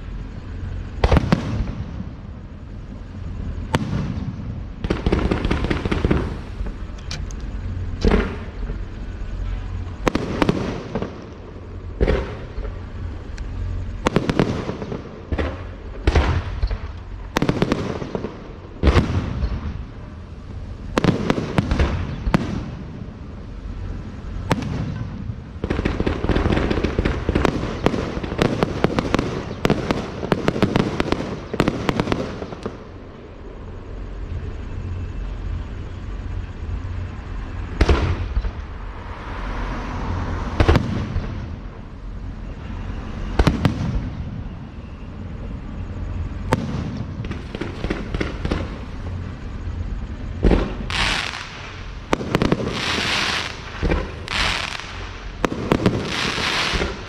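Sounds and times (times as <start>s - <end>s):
fireworks bangs: 0.6s - 33.0s, 37.6s - 38.9s, 40.4s - 57.0s.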